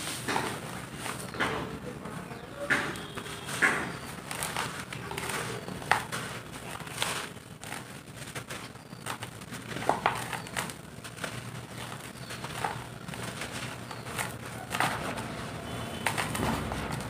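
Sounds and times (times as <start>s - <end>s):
dirt lumps crumbling by hand: 0.1s - 17.0s.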